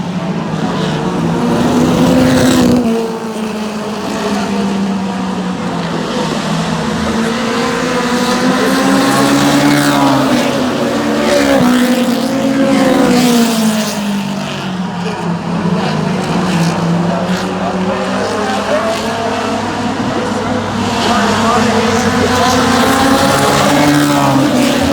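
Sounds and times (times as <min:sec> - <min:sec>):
race car engines passing: 0:00.0 - 0:24.9.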